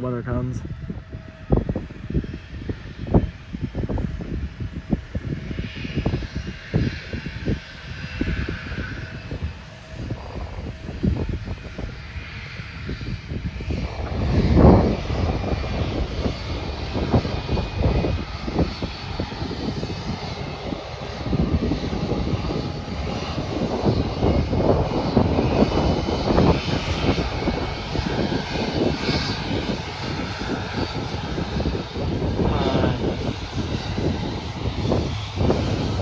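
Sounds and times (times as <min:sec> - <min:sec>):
jet engines rumbling: 0:00.0 - 0:36.0
wind gusting on microphone: 0:00.0 - 0:36.0.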